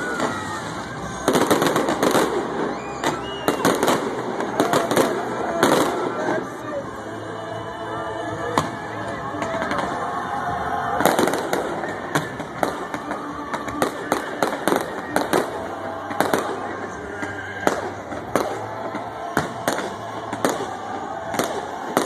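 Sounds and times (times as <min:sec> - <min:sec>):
fireworks bursting with bangs: 0:00.0 - 0:06.9, 0:08.4 - 0:22.0.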